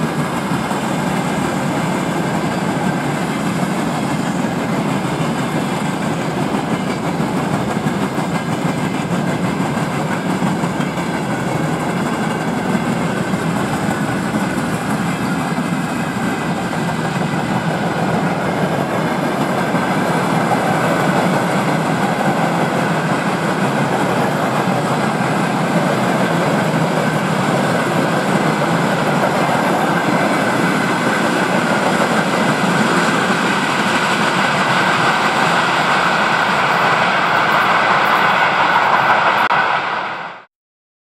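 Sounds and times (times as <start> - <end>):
train wheels on rails: 0.0 - 40.5.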